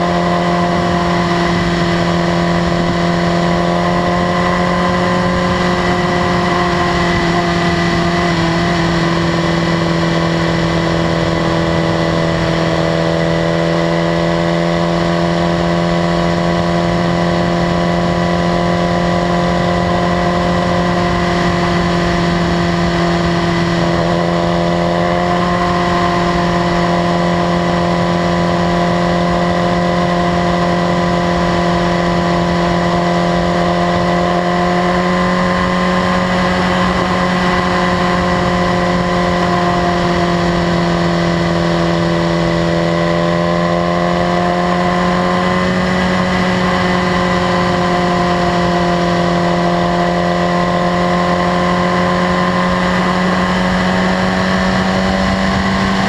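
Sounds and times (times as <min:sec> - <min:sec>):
motorcycle engine cruising drone: 0:00.0 - 0:56.0.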